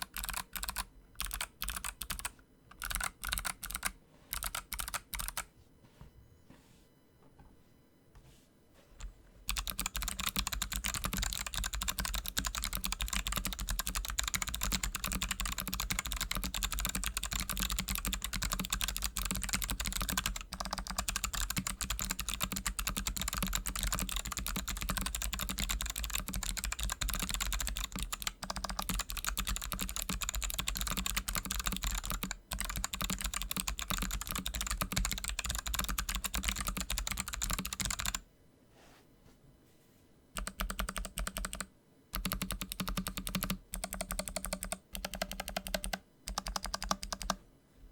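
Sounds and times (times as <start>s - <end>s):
fast mechanical keyboard typing: 0.0s - 5.5s, 9.5s - 38.2s, 40.4s - 47.4s.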